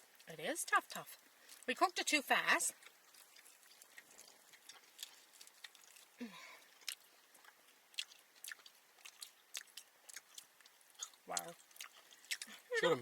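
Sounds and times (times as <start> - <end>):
chewing with wet mouth smacks: 0.0 - 13.0.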